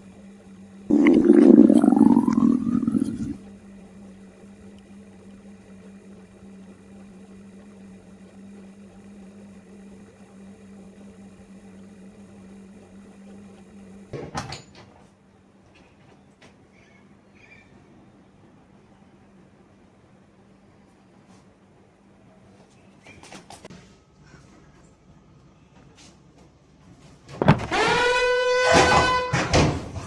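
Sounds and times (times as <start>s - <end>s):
low electrical hum: 0.0s - 28.5s.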